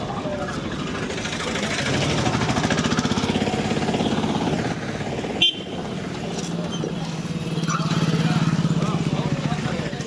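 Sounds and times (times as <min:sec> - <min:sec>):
market street ambience: 0:00.0 - 0:10.0.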